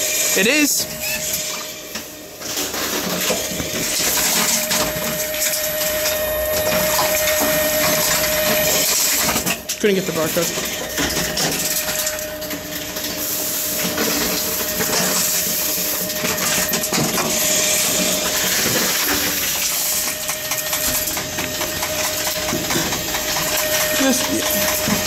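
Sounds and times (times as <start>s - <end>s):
containers clinking and rattling: 0.0s - 25.0s
machine whine: 0.0s - 25.0s.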